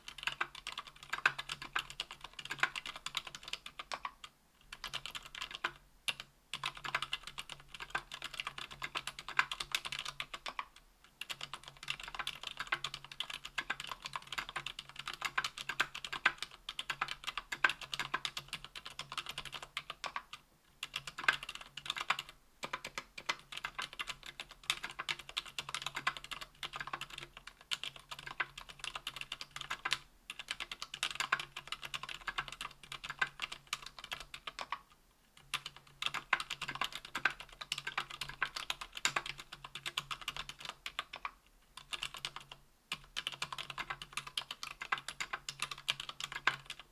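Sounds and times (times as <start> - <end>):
fast typing on keyboard: 0.0 - 46.9.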